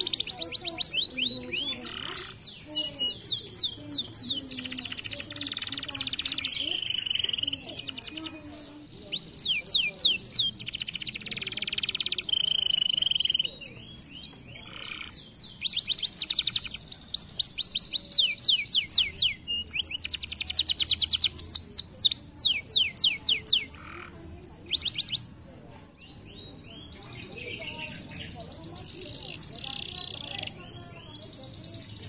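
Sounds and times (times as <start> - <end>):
canary singing: 0.0 - 25.4, 26.0 - 32.0.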